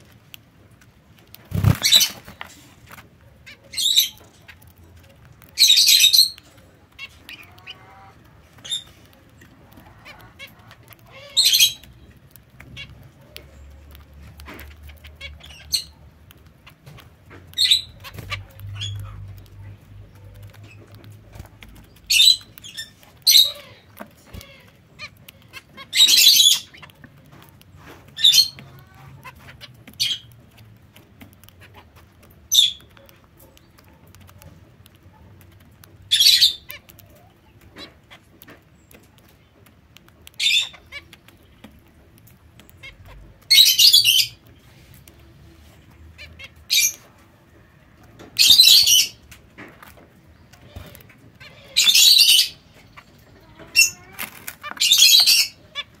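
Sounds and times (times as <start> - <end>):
birds rustling and scratching seed: 0.0 - 56.0.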